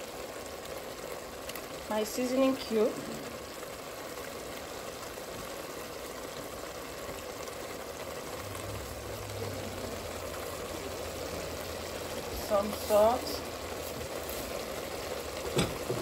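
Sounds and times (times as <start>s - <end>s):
sauce bubbling in a pot: 0.0s - 16.0s.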